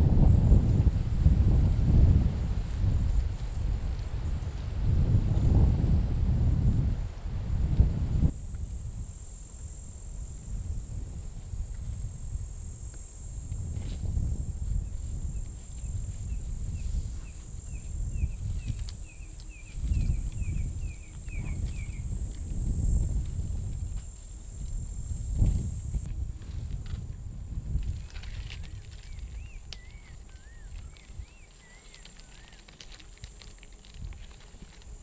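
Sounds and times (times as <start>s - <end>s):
insects buzzing: 0.1s - 35.0s.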